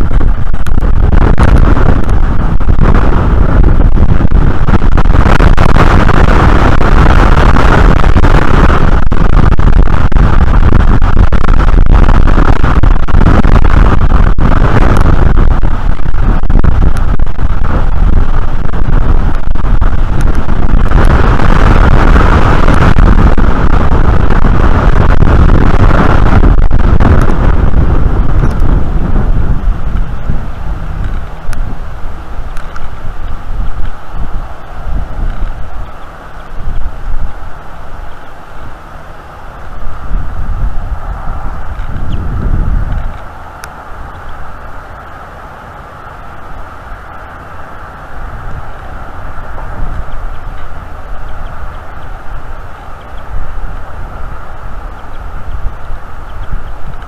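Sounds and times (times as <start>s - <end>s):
strong wind buffeting microphone: 0.0s - 57.0s.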